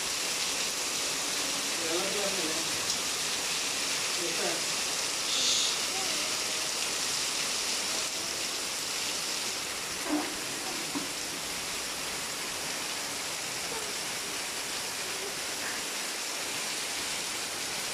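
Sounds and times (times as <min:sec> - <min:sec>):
heavy rain on foliage and roofs: 0:00.0 - 0:17.9.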